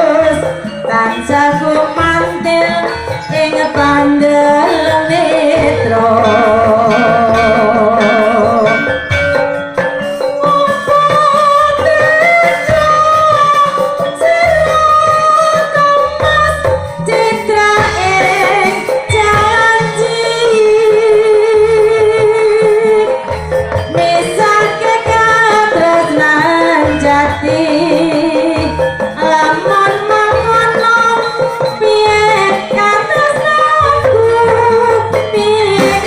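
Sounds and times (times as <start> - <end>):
woman singing: 0.0 - 9.0, 10.3 - 36.0
metal percussion: 0.0 - 36.0.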